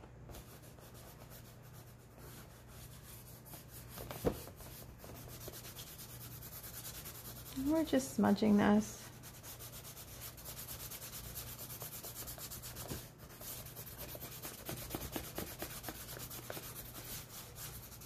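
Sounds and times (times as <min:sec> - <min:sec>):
hand rubbing chalk on board: 0:00.3 - 0:08.2, 0:09.0 - 0:18.0.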